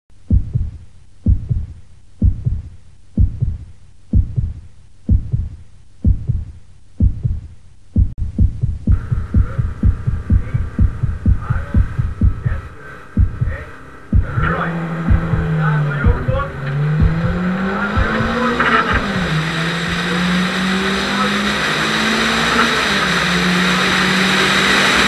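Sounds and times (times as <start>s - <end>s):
heartbeat thumps: 0.1s - 20.8s
steady hum: 0.1s - 25.0s.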